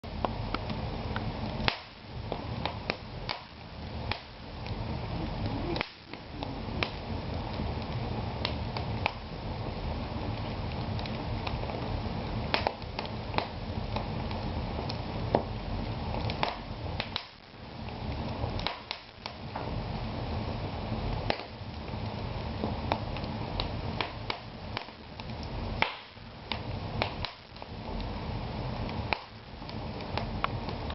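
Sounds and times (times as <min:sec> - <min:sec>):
fire low rush: 0:00.0 - 0:30.9
wood fire crackling: 0:00.0 - 0:30.9.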